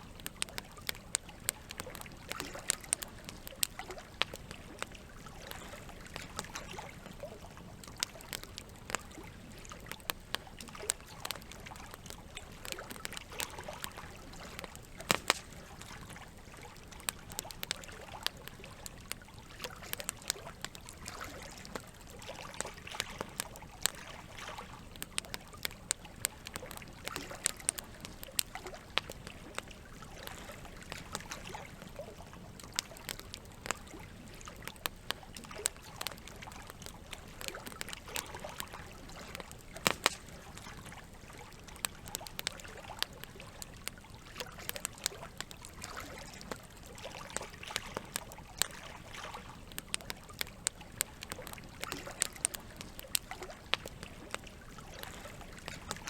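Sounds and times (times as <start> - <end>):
campfire crackling and popping: 0.0 - 56.0
trickling water: 0.0 - 56.0.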